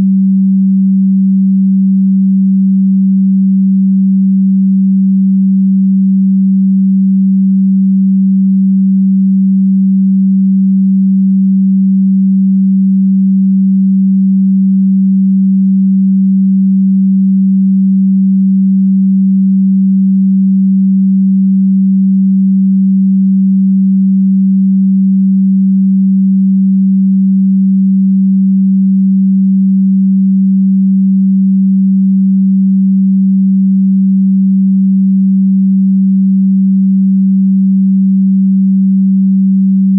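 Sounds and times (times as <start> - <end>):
pure sine tone hum: 0.0 - 39.9.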